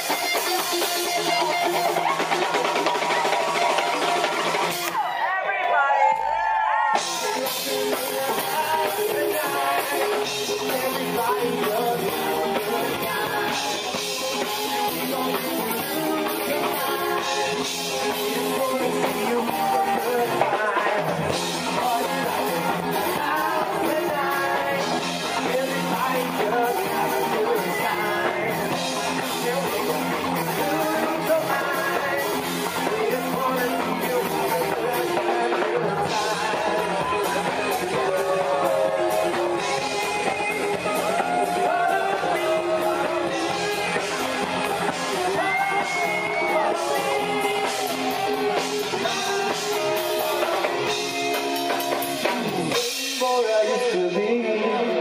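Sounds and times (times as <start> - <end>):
live rock band playing: 0.0 - 5.3, 6.3 - 55.0
person singing: 0.0 - 55.0.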